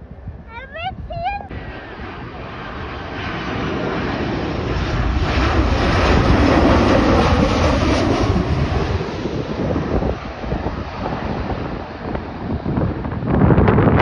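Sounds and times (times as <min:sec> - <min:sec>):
jet airliner passing overhead: 0:00.1 - 0:14.0.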